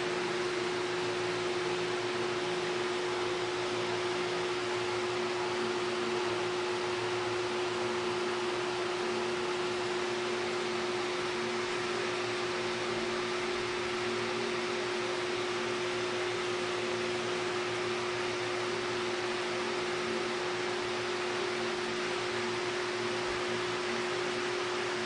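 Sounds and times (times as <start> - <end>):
steady hum with hiss: 0.0 - 25.0.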